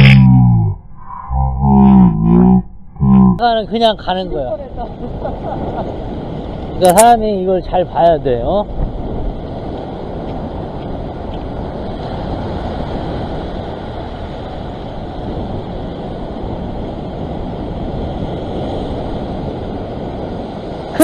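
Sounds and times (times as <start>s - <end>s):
ocean surf breaking on rocks: 3.4s - 21.0s
wind buffeting microphone: 3.4s - 21.0s.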